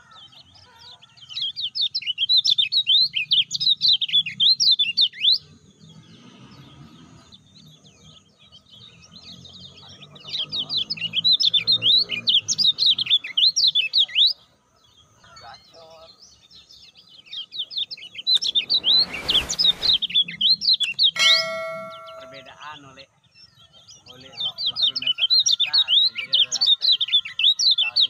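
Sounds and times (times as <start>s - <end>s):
bird chattering song: 0.0s - 28.0s.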